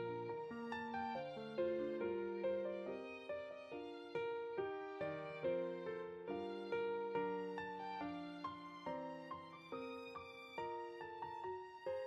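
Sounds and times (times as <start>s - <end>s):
gentle instrumental melody: 0.0s - 12.0s.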